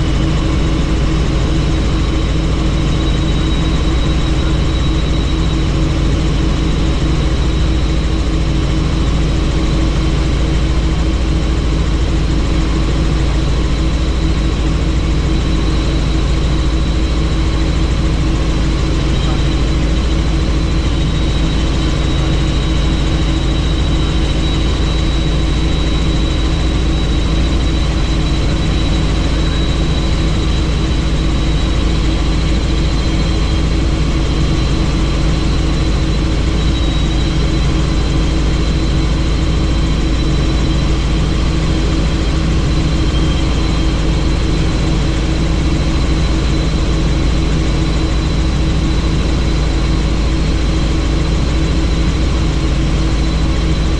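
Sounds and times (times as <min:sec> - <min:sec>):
helicopter rotor and engine drone: 0:00.0 - 0:53.9
high whine: 0:00.0 - 0:53.9.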